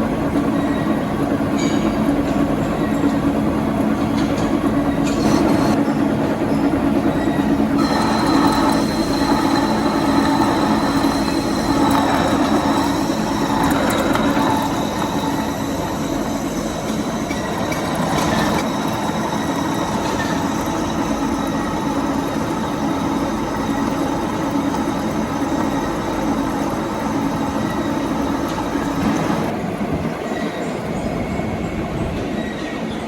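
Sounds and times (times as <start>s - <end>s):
metal lathe humming and whining: 0.0s - 29.7s.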